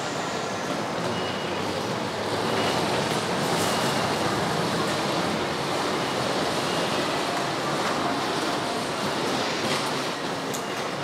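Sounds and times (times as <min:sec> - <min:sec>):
station concourse rushing noise: 0:00.0 - 0:11.0.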